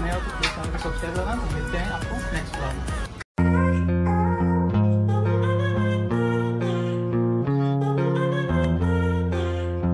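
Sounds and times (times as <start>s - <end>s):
instrumental music with held chords: 0.0s - 9.9s.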